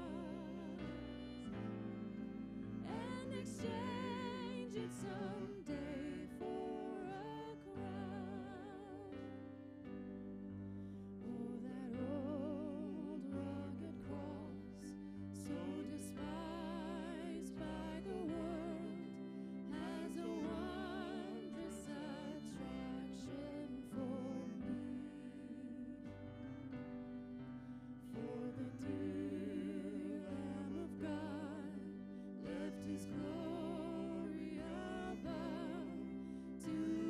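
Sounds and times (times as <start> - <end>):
held low accompanying notes: 0.0 - 37.0
slow hymn with vibrato: 0.0 - 37.0.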